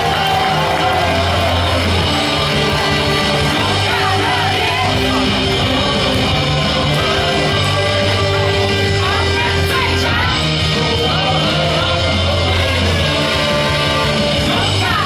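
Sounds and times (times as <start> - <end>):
loud cheering music over speakers: 0.0 - 15.0
voices singing and shouting: 0.0 - 15.0.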